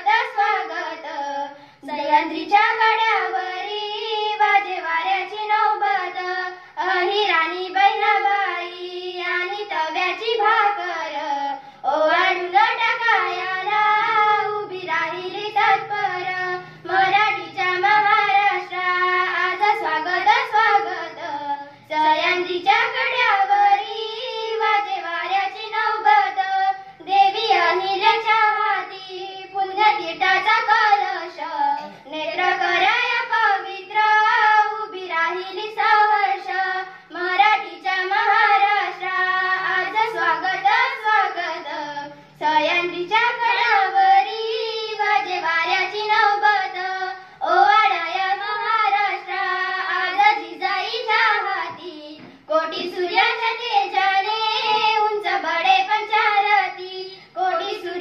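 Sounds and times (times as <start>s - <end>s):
girls singing into a microphone: 0.0s - 58.0s.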